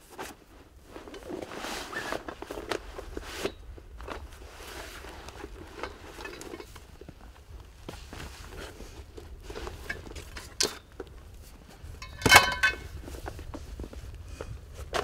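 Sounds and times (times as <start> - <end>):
low steady rumble: 2.5 - 14.9.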